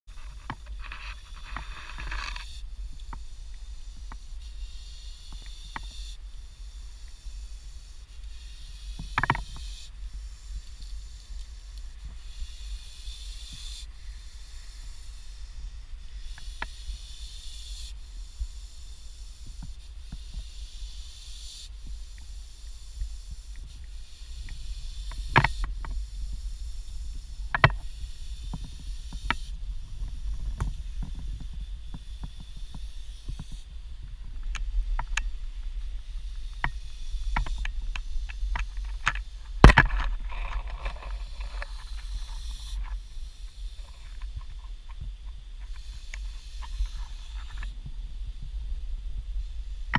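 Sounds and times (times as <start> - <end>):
snake hissing: 0.1 - 49.9.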